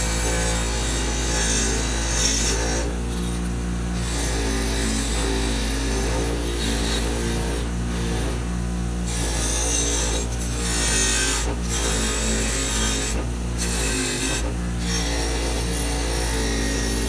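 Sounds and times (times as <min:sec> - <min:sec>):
wire wheel rasping on steel: 0:00.0 - 0:08.4, 0:09.0 - 0:17.0
bench grinder running: 0:00.0 - 0:17.0.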